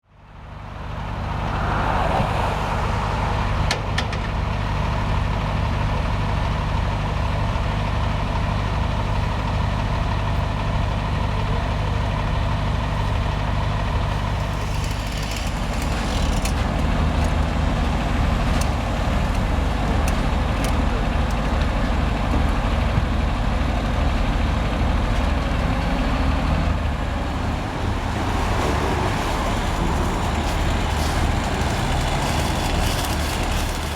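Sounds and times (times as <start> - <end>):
truck engine idling: 0.3 - 33.9.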